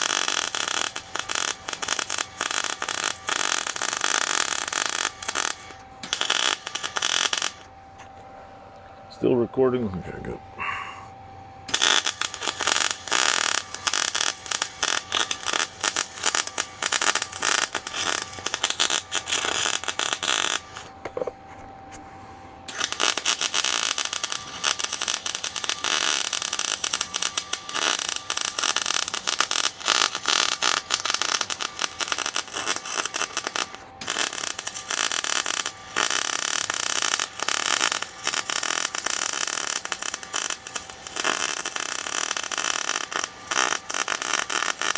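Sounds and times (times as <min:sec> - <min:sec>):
welder arc crackling: 0:00.0 - 0:07.7, 0:11.7 - 0:21.3, 0:22.7 - 0:44.9.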